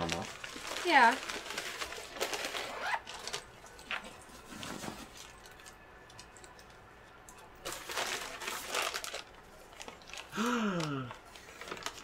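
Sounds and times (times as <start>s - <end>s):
paper bag rustling and crinkling: 0.0s - 5.6s, 7.6s - 12.0s.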